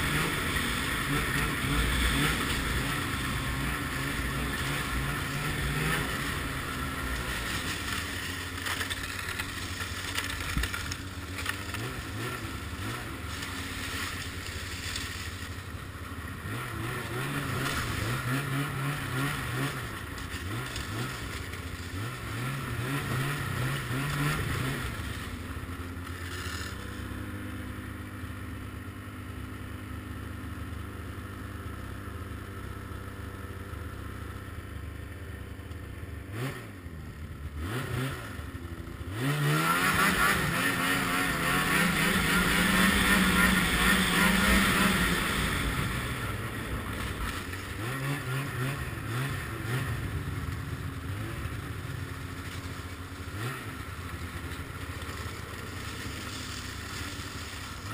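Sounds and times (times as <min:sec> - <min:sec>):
snowmobile engine revving: 0:00.0 - 0:28.4, 0:36.2 - 0:57.9.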